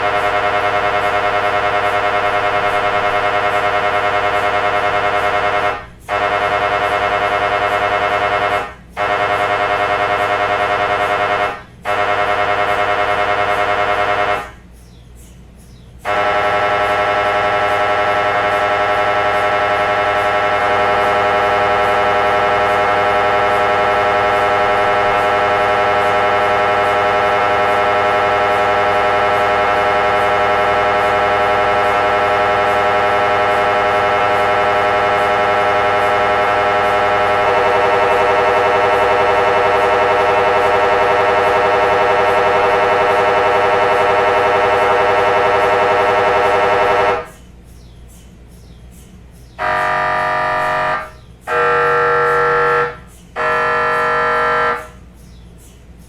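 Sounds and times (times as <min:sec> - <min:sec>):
mri scanner buzzing: 0:00.0 - 0:14.6, 0:16.1 - 0:47.4, 0:49.6 - 0:55.1.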